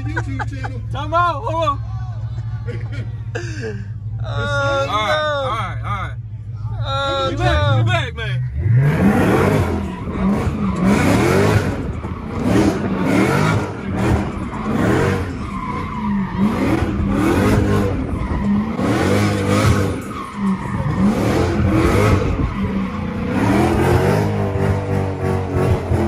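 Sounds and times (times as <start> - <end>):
tyres skidding and squealing: 0.0 - 26.0
car engine revving: 4.0 - 26.0.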